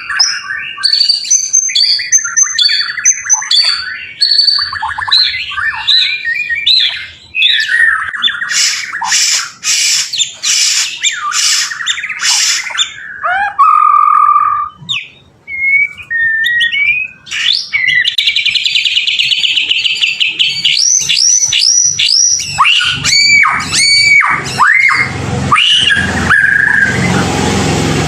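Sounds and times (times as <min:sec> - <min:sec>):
songbird whistling and trilling: 0:00.0 - 0:27.2
harsh rattling bird calls: 0:00.0 - 0:28.0.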